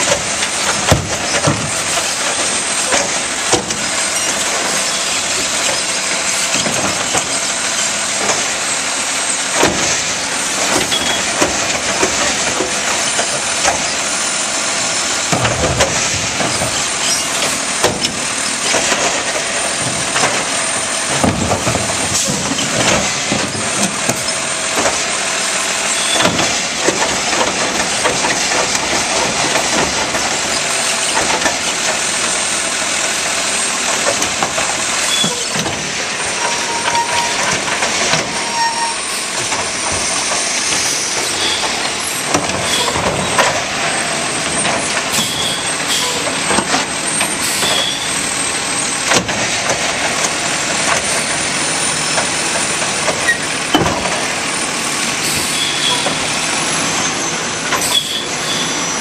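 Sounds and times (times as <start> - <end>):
knocks and clatter: 0.0 - 8.7, 9.5 - 58.4
garbage truck running: 0.0 - 59.0
hydraulic arm lifting cart: 0.0 - 59.0.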